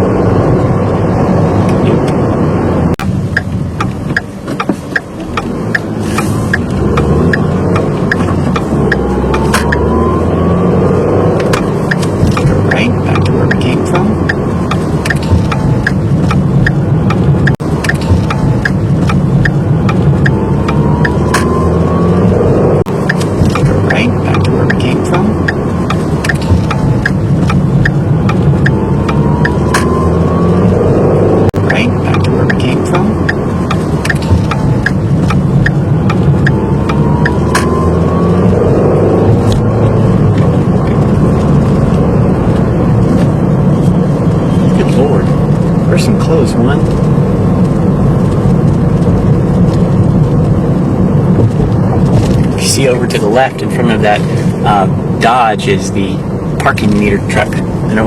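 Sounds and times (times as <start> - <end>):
car engine and road noise: 0.0 - 58.0
turn signal clicking: 2.9 - 10.7, 11.3 - 30.9, 31.5 - 58.0.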